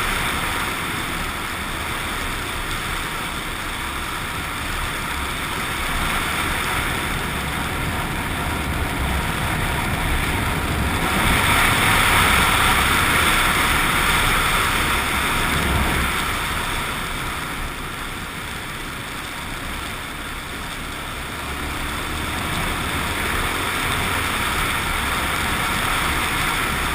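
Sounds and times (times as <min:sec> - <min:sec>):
motorcycle engine running: 0:00.0 - 0:26.9
wind and road noise: 0:00.0 - 0:26.9.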